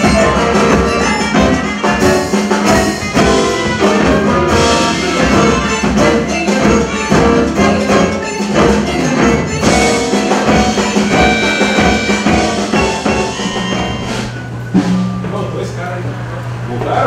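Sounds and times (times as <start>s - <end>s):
jazz band playing: 0.0s - 16.8s
drum kit and percussion: 0.0s - 17.0s.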